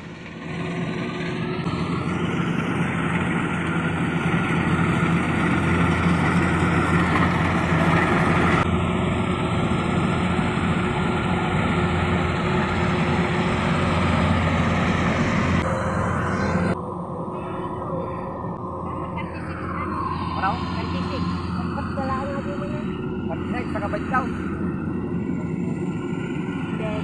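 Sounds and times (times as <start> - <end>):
combine harvester engine hum: 0.0 - 27.0
faint steady whine: 0.0 - 27.0.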